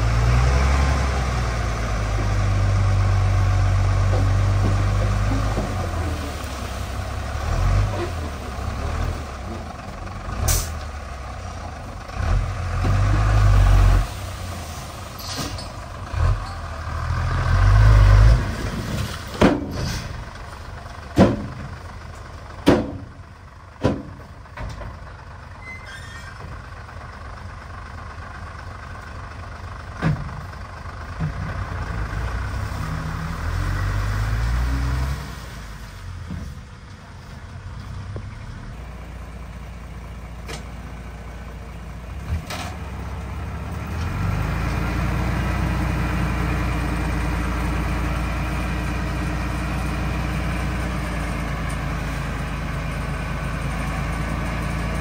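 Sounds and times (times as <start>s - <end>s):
diesel truck engine revving: 0.0s - 23.2s, 30.6s - 36.3s, 37.6s - 55.0s.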